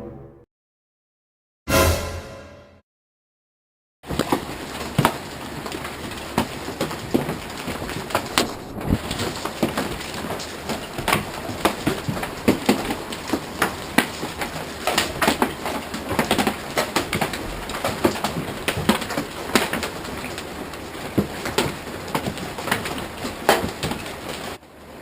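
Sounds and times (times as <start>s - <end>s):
hailstones striking the ground: 4.1s - 24.6s.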